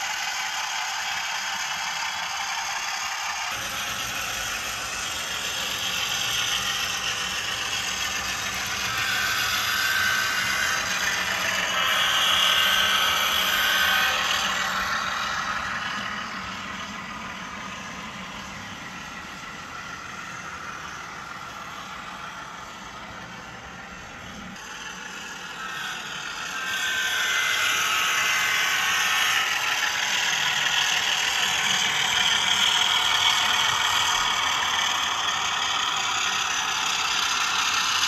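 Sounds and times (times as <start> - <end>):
diesel engine sound effect: 0.0 - 38.0
model train motor whirring: 0.0 - 38.0.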